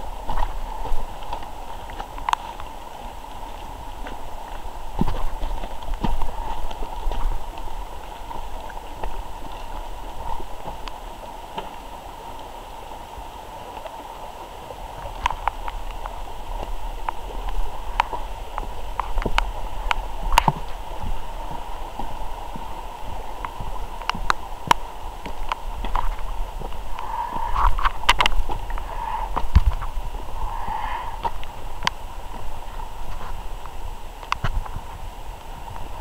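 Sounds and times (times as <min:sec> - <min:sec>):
footsteps on wet forest trail: 0:00.0 - 0:36.0.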